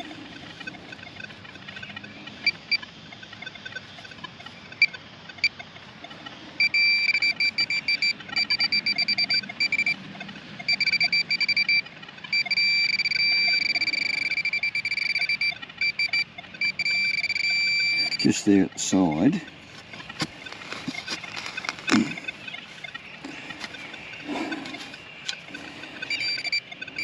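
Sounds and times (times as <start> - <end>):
metal detector beeping: 0.0 - 10.0, 10.6 - 27.0.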